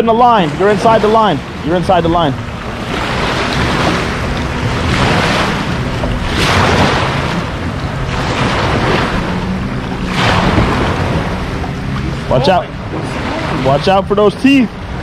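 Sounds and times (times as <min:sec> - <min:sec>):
wind on microphone: 0:00.0 - 0:14.1
waves washing in: 0:00.0 - 0:15.0.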